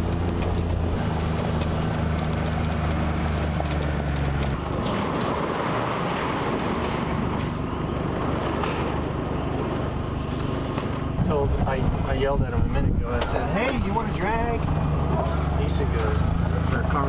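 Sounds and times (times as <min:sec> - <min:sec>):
vehicle engine running: 0:00.0 - 0:17.0
vehicle rushing on the move: 0:00.0 - 0:17.0.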